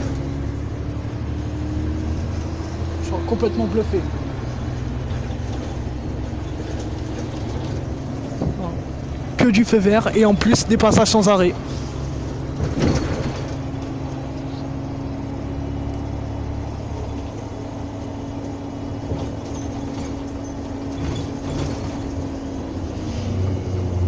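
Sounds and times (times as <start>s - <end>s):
bus diesel engine idling: 0.0s - 24.0s.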